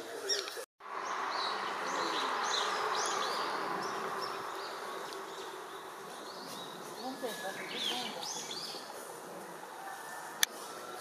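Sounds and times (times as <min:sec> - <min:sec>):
small birds chirping: 0:00.2 - 0:09.0.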